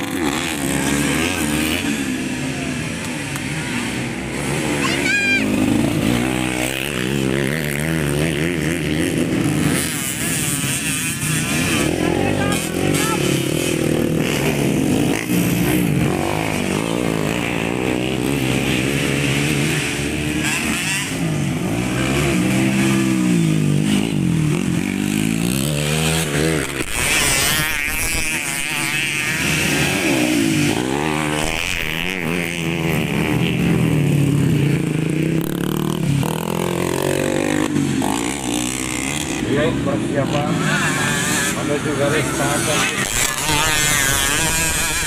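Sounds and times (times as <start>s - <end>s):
motorcycle engines revving hard: 0.0s - 45.0s.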